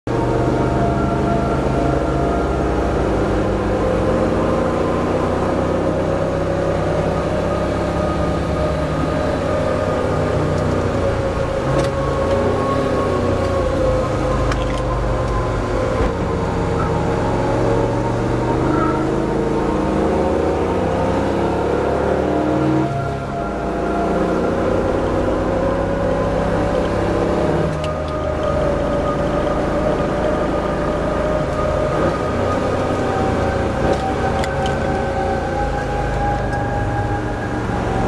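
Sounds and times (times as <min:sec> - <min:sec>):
car engine running: 0:00.1 - 0:38.0.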